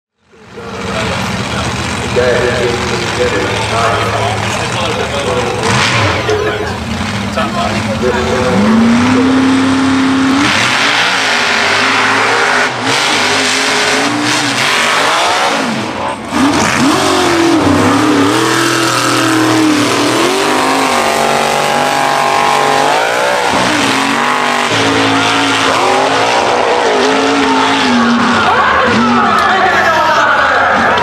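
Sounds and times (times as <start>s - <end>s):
truck engines racing: 0.1s - 31.0s.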